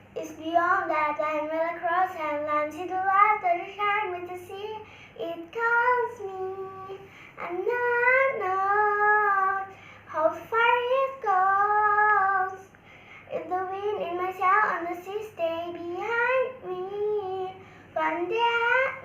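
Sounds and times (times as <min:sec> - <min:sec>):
girl singing unaccompanied: 0:00.0 - 0:19.0.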